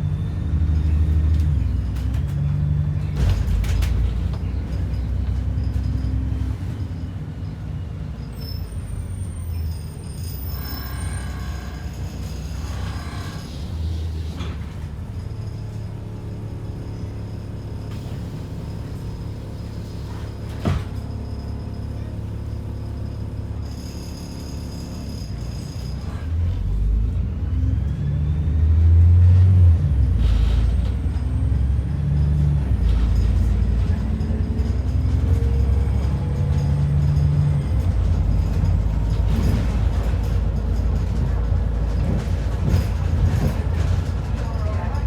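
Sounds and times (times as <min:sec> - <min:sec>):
diesel bus engine accelerating: 0:00.0 - 0:45.0.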